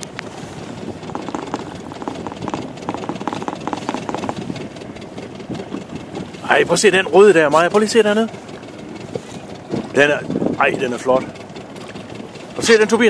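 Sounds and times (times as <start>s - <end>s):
dinghy motor running: 0.0s - 13.0s
water slapping against hull: 0.0s - 13.0s.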